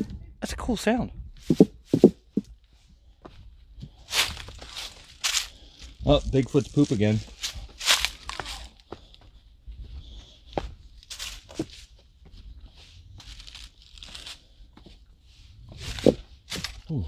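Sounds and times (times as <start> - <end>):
footsteps crunching on rocky trail: 1.5 - 2.5, 3.2 - 17.0.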